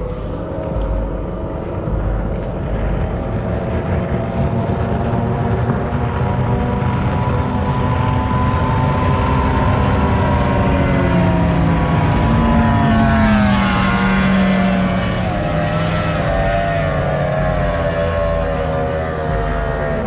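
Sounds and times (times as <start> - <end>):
boat engine passing at full throttle: 0.0 - 20.0.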